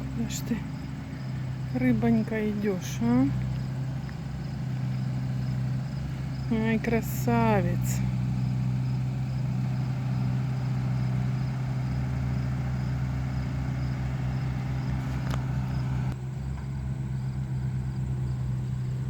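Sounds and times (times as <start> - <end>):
crickets chirping: 0.0 - 19.0
engine idling hum: 0.0 - 19.0.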